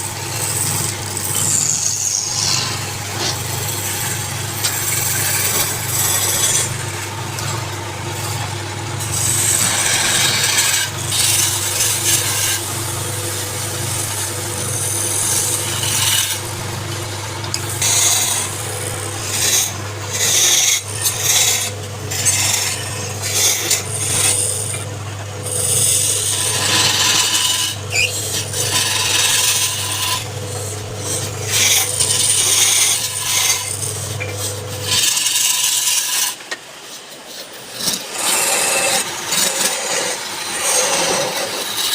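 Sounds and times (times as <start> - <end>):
lathe motor humming: 0.0 - 41.9
tool scraping spinning wood: 0.0 - 41.9.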